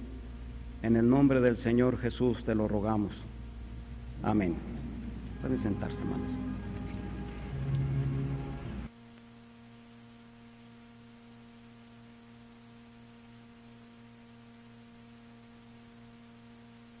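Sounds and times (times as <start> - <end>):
electrical hum: 0.0 - 17.0
recording hiss: 0.0 - 17.0.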